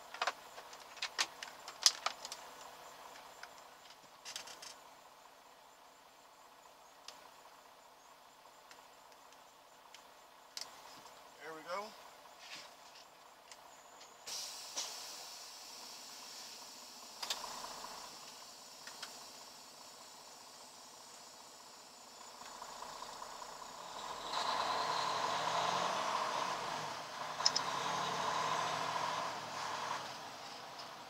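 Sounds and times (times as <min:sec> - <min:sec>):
truck engine idling and pulling away: 0:00.0 - 0:31.0.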